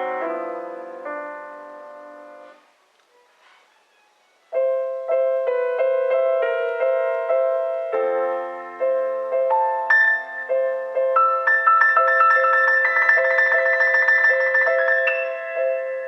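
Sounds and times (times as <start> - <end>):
acoustic piano chords: 0.0 - 16.0.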